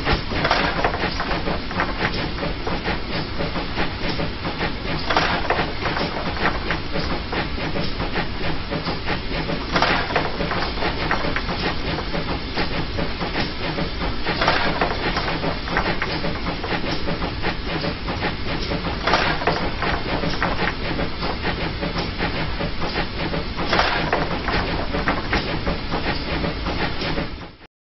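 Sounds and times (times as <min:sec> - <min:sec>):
steam locomotive working: 0:00.0 - 0:27.6.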